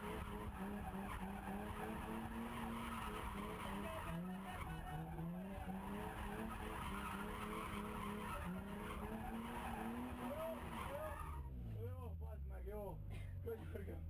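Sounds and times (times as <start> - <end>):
car engine revving: 0.0 - 13.1
tyres skidding: 0.0 - 14.0.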